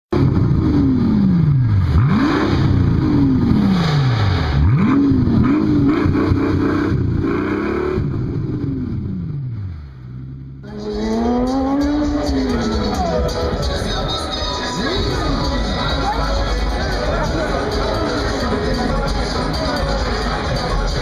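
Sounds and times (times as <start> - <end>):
car engine revving: 0.1 - 21.0.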